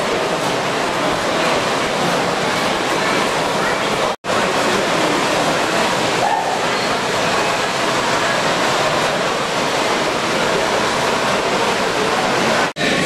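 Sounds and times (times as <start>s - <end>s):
many people talking: 0.0s - 13.0s.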